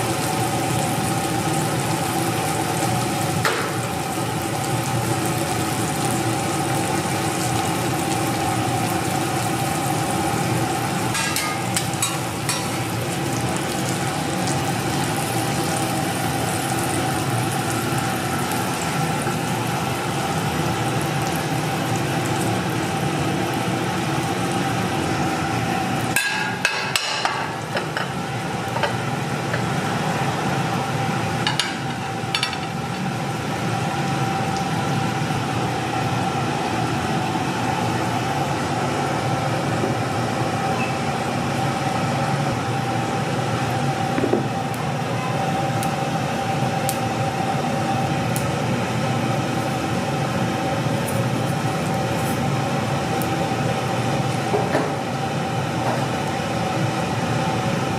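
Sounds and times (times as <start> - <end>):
rice sizzling in a pan: 0.0 - 35.4, 43.5 - 57.9
burner hum: 0.0 - 57.9.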